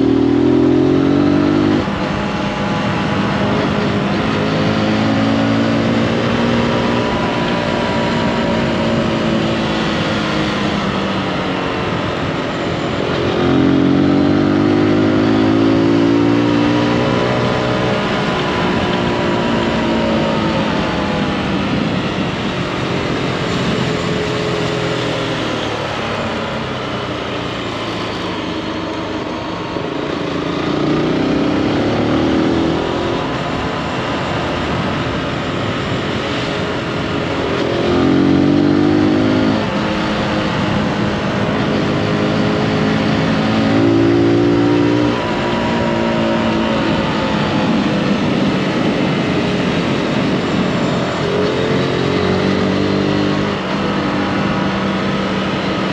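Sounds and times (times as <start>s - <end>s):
motorcycle engine accelerating: 0.0s - 55.9s
wind and road noise: 0.0s - 55.9s.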